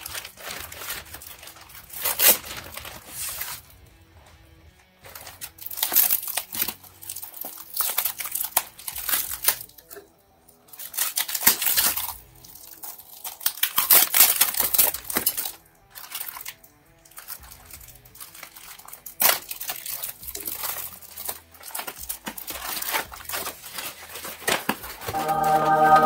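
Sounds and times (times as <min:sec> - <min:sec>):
paper and plastic bag crinkling: 0:00.0 - 0:03.9, 0:05.0 - 0:10.0, 0:10.7 - 0:25.7.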